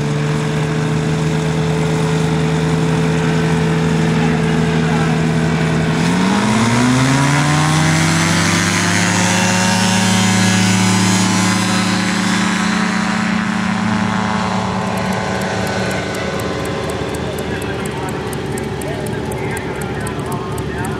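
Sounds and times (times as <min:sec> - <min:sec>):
aircraft engine revving up: 0:00.0 - 0:20.9.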